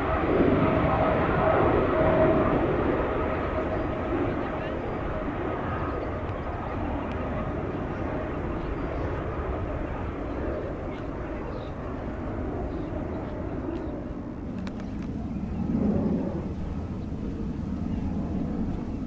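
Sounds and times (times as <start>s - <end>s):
jet airliner engine noise: 0.0s - 19.0s.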